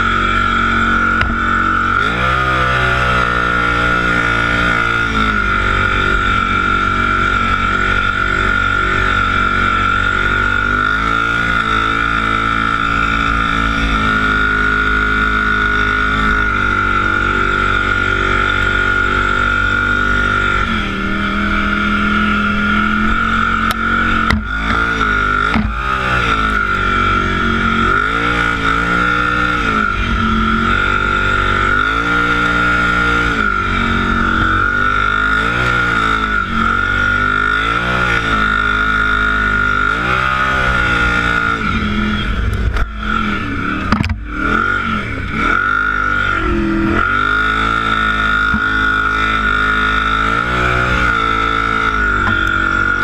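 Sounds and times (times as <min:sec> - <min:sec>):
atv engine revving: 0:00.0 - 0:53.0
steady high whine: 0:00.0 - 0:53.0.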